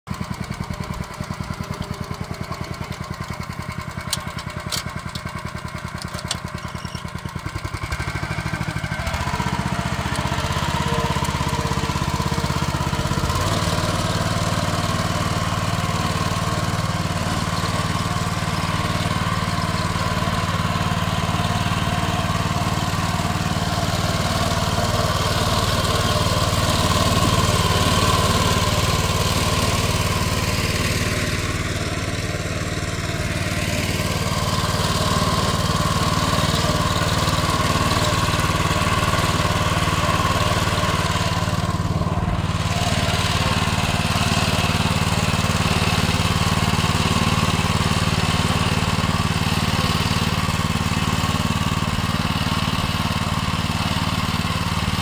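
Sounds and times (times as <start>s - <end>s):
small petrol engine running: 0.1s - 55.0s.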